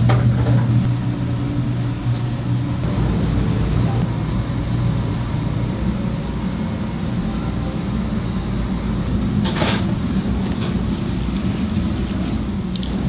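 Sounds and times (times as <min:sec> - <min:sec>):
steady low rumble: 0:00.4 - 0:13.0.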